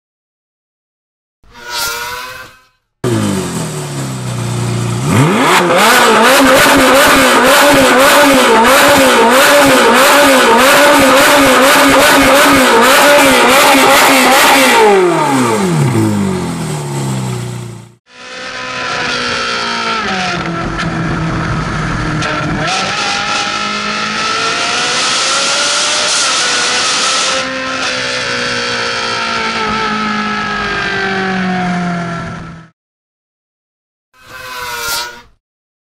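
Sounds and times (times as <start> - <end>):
sports car engine revving: 3.0 - 32.1.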